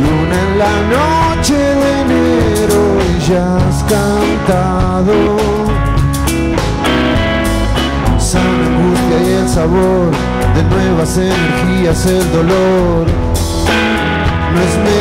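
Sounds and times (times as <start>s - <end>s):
bending guitar melody: 0.0s - 15.0s
rock band playing live: 0.0s - 15.0s.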